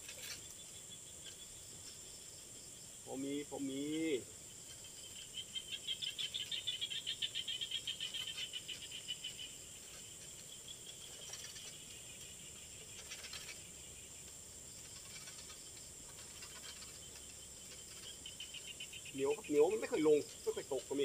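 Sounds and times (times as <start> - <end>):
high-pitched insect drone: 0.0 - 21.0
insect pulsing trill: 0.0 - 21.0.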